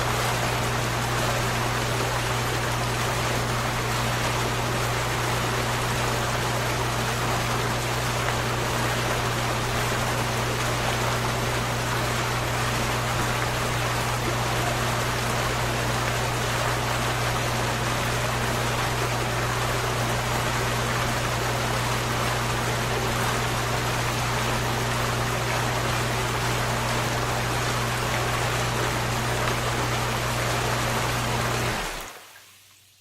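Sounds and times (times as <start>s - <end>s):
water running: 0.0s - 32.9s.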